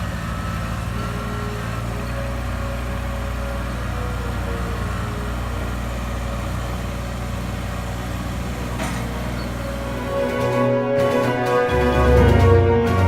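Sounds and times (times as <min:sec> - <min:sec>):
car engine and road hum: 0:00.0 - 0:12.9.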